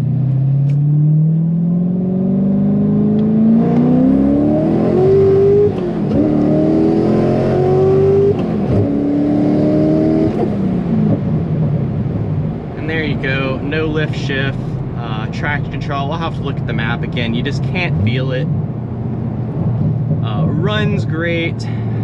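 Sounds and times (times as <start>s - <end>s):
car engine revving at full throttle: 0.0s - 22.0s.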